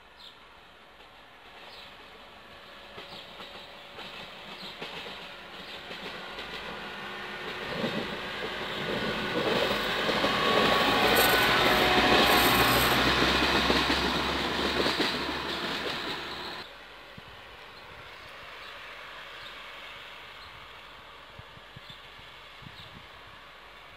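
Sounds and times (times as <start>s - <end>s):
train wheels rumbling on rails: 0.2s - 23.9s.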